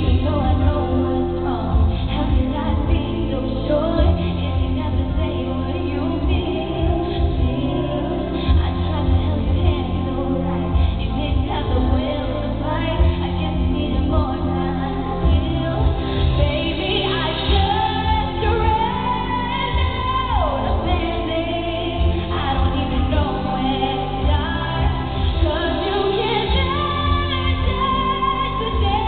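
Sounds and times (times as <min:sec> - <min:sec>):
woman singing a pop ballad: 0:00.0 - 0:29.0.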